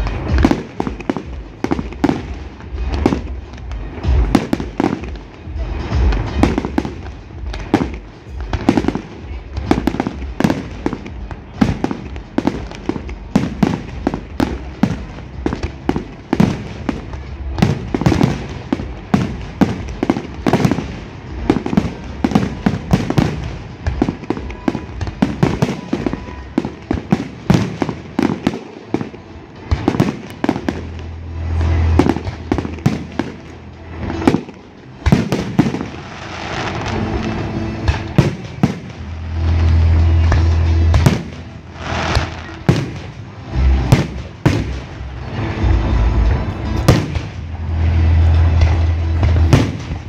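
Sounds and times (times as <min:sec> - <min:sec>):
deep fireworks booms: 0:00.0 - 0:50.0
fireworks bangs and crackles: 0:00.0 - 0:50.0.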